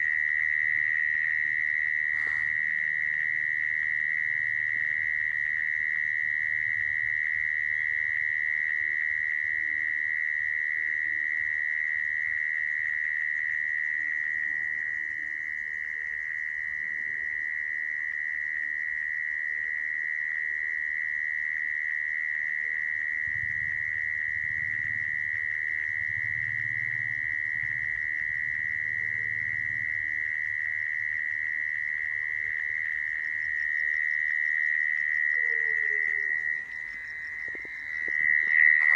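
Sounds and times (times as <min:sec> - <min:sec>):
mole cricket high-pitched trill: 0:00.0 - 0:38.9.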